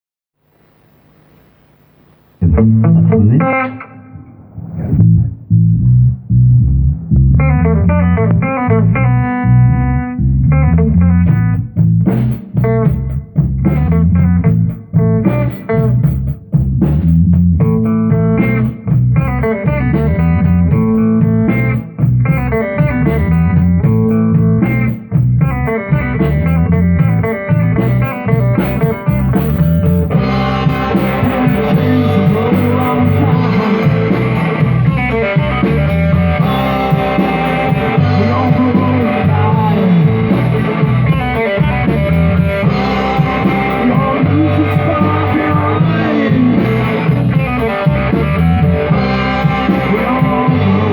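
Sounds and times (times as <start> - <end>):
bass guitar line: 1.6 - 50.9
electric guitar: 2.2 - 50.9.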